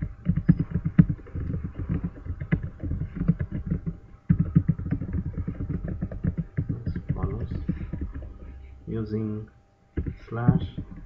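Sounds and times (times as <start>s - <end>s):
fast typing on keyboard: 0.0s - 8.6s, 10.0s - 11.0s.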